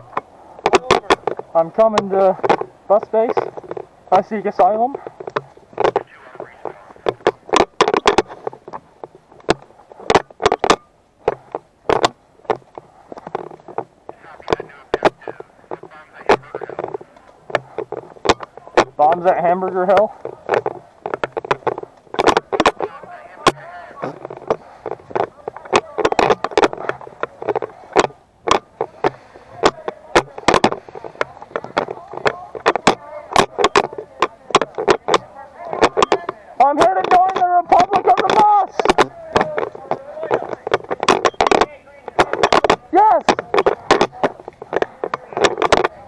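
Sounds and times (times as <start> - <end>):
camera rattling in mount: 0.0 - 46.0
rustling of movement: 0.0 - 46.0.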